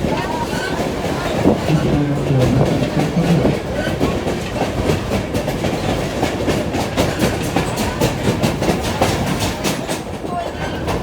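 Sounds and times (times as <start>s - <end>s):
train car rumbling on track: 0.0s - 11.0s
wheels clicking on rails: 0.0s - 11.0s.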